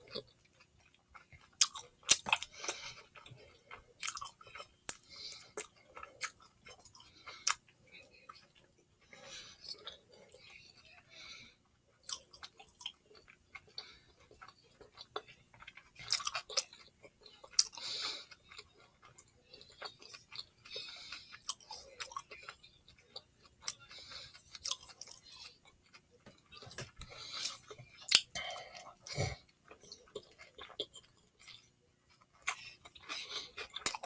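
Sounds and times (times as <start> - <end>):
person chewing: 0.0 - 34.0.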